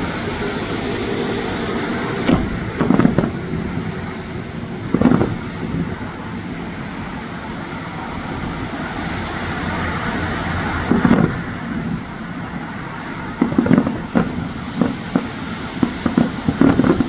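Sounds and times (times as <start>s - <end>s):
fireworks bangs: 0.0s - 9.1s, 9.7s - 17.0s
outdoor rumble: 0.0s - 17.0s.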